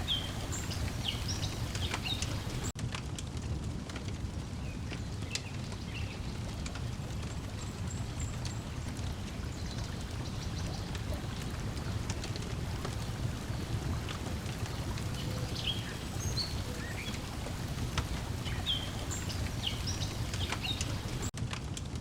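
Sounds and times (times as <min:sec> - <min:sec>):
small birds chirping: 0:00.0 - 0:02.8, 0:04.6 - 0:21.3
waves lapping: 0:00.0 - 0:02.8, 0:05.7 - 0:21.3
wood fire crackling: 0:00.0 - 0:22.0.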